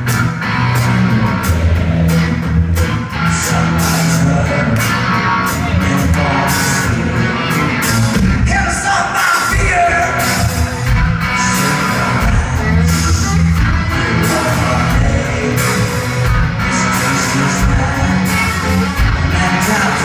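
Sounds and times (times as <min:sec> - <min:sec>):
live rock band playing: 0:00.0 - 0:20.0
man singing lead vocal: 0:03.1 - 0:20.0.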